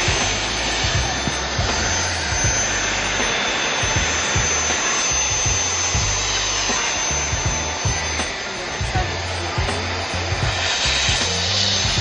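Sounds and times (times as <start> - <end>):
background music with beat: 0.0 - 12.0
handheld vacuum cleaner running: 0.0 - 12.0.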